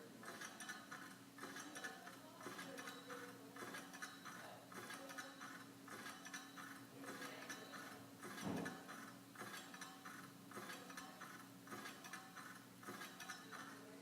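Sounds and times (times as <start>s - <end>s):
ceiling fan motor hum: 0.0s - 14.0s
fan blades ticking: 0.0s - 14.0s.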